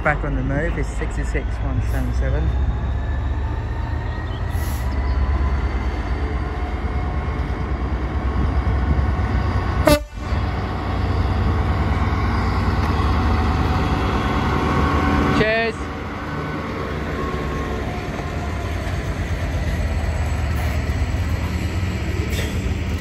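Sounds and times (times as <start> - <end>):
diesel locomotive engine rumbling: 0.0 - 23.0.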